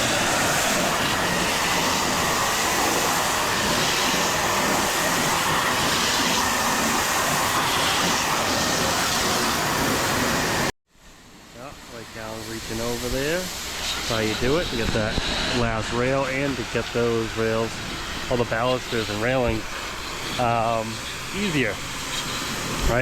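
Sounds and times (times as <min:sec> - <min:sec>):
pressure washer spraying: 0:00.0 - 0:10.7, 0:12.2 - 0:23.0.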